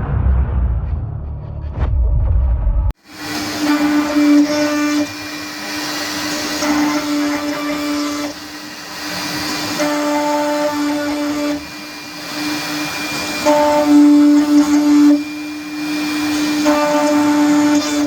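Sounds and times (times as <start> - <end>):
cnc router motor whine: 3.0 - 18.0
router cutting wood sheet: 3.0 - 18.0.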